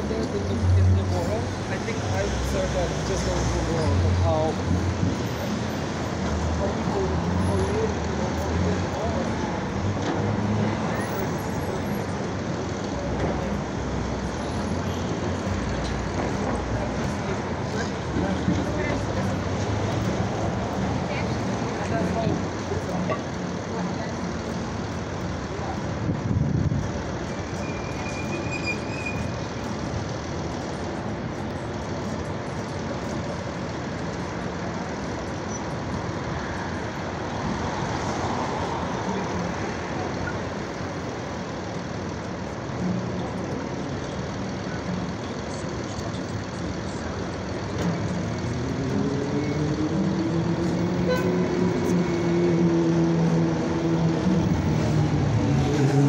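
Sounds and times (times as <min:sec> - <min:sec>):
heavy vehicle engine running: 0:00.0 - 0:56.0
road noise: 0:00.0 - 0:56.0.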